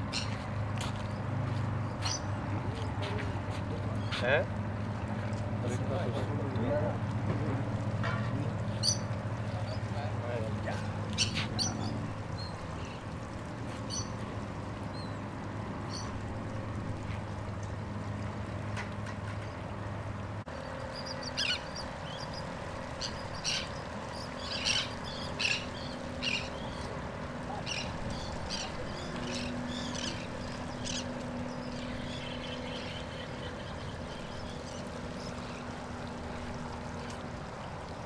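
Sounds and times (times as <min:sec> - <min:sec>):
birds chirping: 0:00.0 - 0:04.6, 0:05.2 - 0:17.3, 0:20.5 - 0:38.0
water noise: 0:00.0 - 0:38.0
wind: 0:00.0 - 0:38.0.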